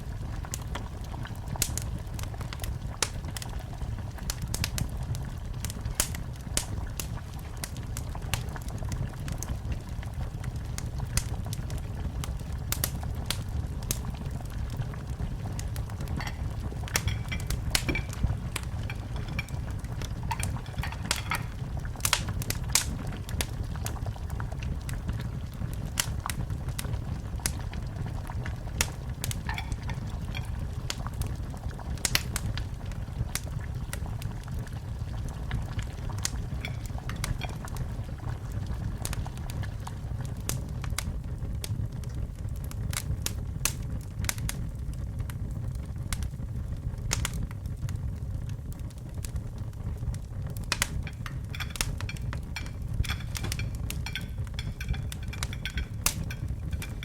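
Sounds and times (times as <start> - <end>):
fire crackling in fireplace: 0.0 - 57.0
sharp pops of fire: 0.4 - 9.8, 10.6 - 57.0.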